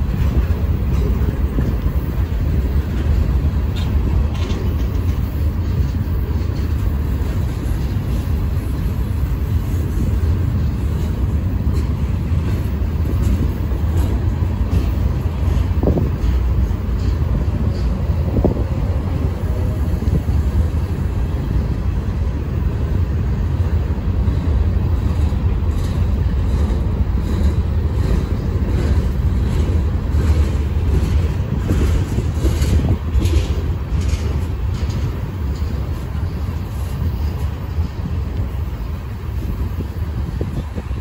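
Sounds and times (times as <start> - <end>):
freight train rumbling on rails: 0.0 - 41.0
train wheels clicking and clanking: 0.0 - 41.0.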